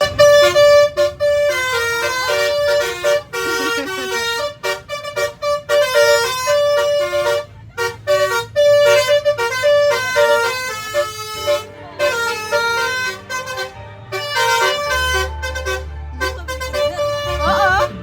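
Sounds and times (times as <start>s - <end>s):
multi-tone musical bus horn: 0.0s - 18.0s.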